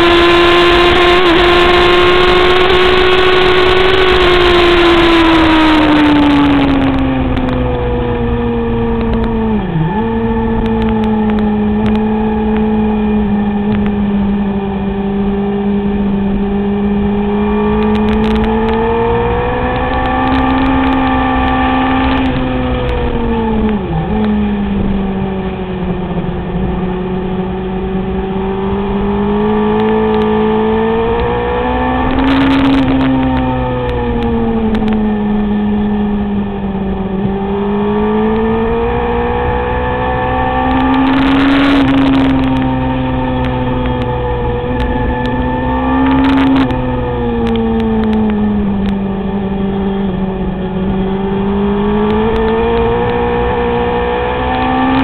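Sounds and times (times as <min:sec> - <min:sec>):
motorcycle engine running hard: 0:00.0 - 0:55.0
rushing wind: 0:00.0 - 0:55.0.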